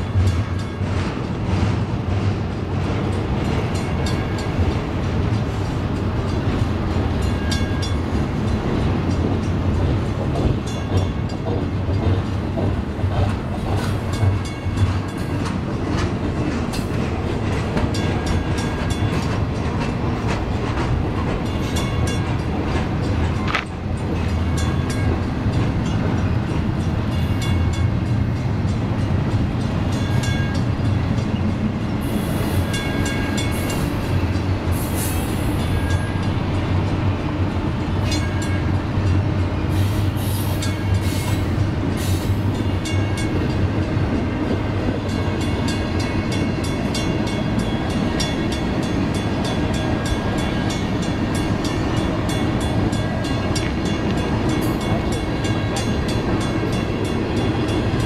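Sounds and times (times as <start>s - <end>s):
rail clicks: 0.0s - 58.0s
train wheels rumbling on rail: 0.0s - 58.0s.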